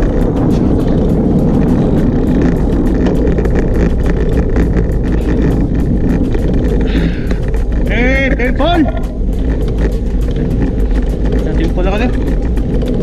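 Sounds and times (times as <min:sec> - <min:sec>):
bike tyre and road noise: 0:00.0 - 0:13.0
small clicks and rattles: 0:00.0 - 0:13.0
wind rumble on microphone: 0:00.0 - 0:13.0.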